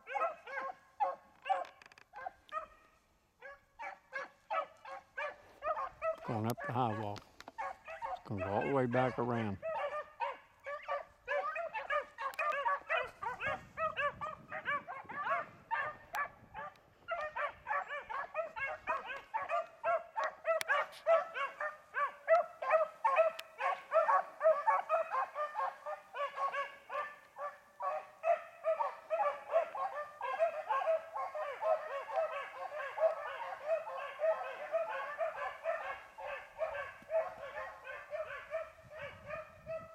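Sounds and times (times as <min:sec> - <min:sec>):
beagles baying: 0:00.0 - 0:39.9.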